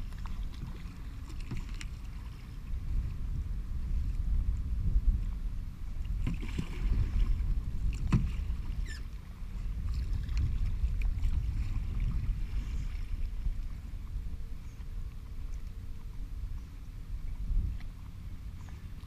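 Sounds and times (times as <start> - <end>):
paddle splashing in water: 0.0 - 3.2, 5.9 - 19.0
water and wind rumble: 0.0 - 19.0.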